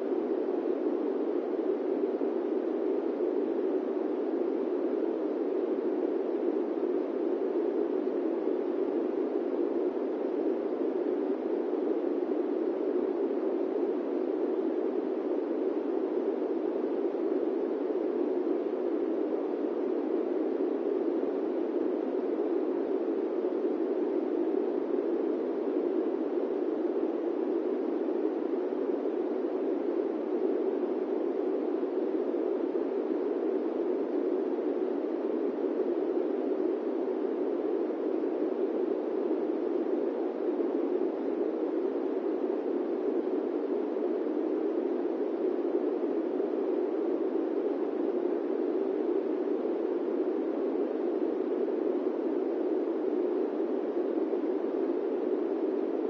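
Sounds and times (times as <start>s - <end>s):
airplane cabin white noise: 0.0s - 56.0s.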